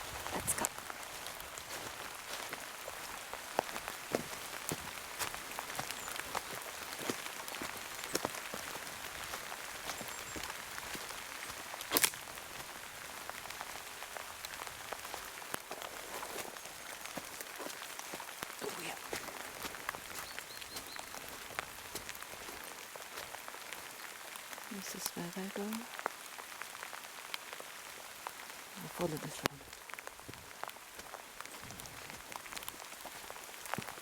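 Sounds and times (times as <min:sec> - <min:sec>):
heavy rain: 0:00.0 - 0:34.0
raindrop ticks: 0:00.1 - 0:34.0.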